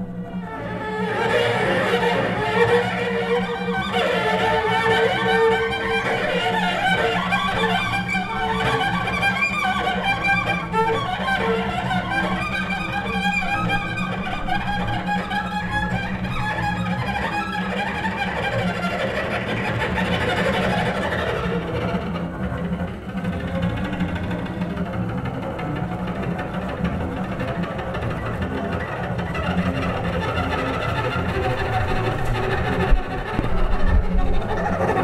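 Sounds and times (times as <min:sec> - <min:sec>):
double basses bowed drone: 0:00.0 - 0:35.0
higher bowed notes: 0:00.0 - 0:35.0.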